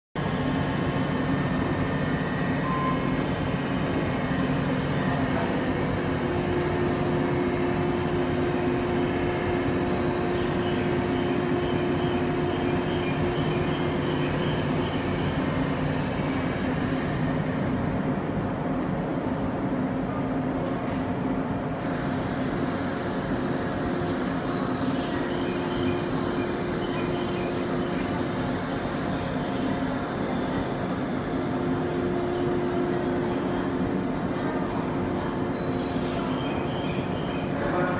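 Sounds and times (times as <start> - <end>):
electric train machine hum: 0.2 - 37.9.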